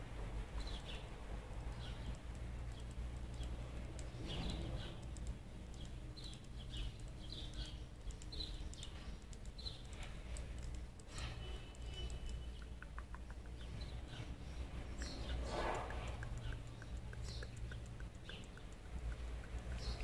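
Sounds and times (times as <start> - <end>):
small birds chirping: 0.0 - 20.0
fingers tapping a small object: 1.8 - 20.0.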